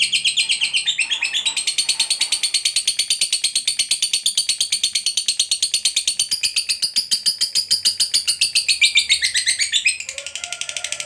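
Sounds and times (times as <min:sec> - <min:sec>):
lovebird chattering trill: 0:00.0 - 0:10.5.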